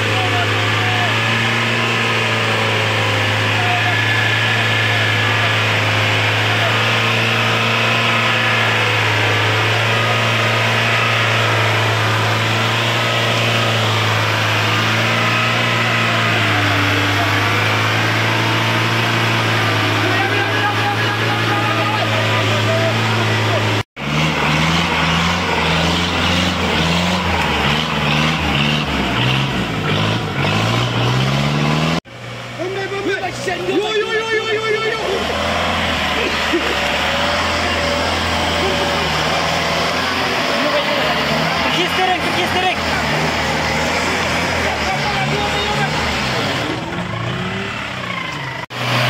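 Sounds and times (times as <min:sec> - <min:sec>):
jeep engine running at low revs: 0:00.0 - 0:49.0.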